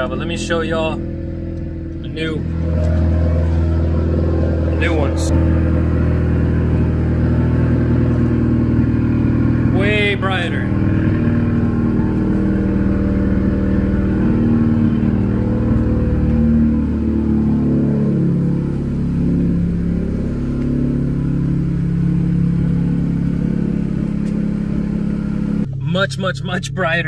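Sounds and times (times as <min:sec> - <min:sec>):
car engine idling loudly: 0:00.0 - 0:27.0.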